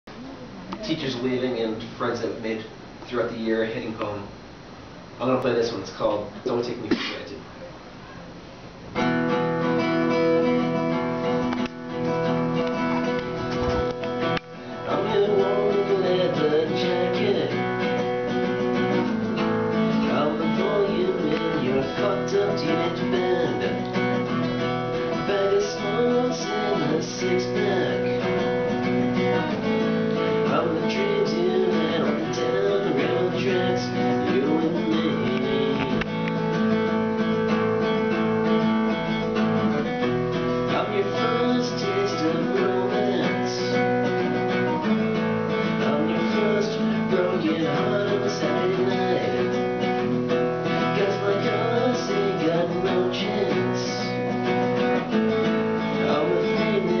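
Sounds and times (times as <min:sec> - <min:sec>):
acoustic guitar strumming: 0:08.9 - 0:57.0.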